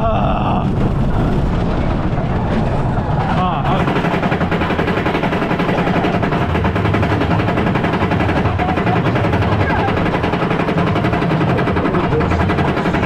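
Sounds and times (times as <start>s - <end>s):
roller coaster wheels clattering: 0.0s - 13.0s.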